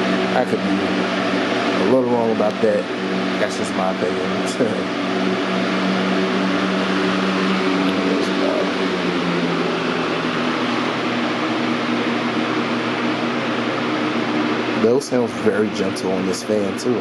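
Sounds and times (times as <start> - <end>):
box fan air rush: 0.0 - 17.0
low motor hum: 0.0 - 17.0.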